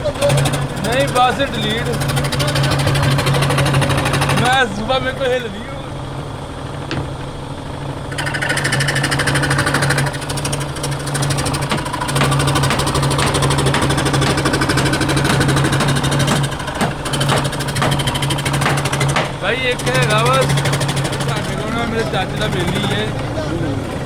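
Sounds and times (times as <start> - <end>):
woodworking machine clattering: 0.0 - 24.0.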